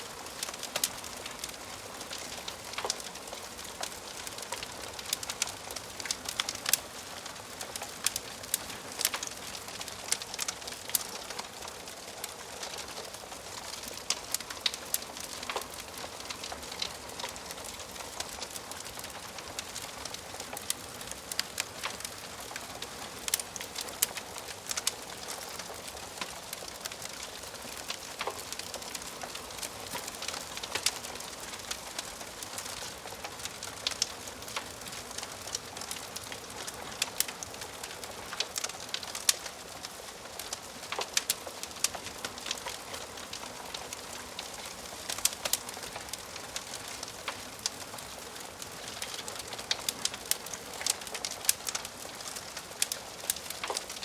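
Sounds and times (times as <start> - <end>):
hiss of burning wood: 0.0 - 54.0
wood fire crackling and popping: 0.0 - 54.0.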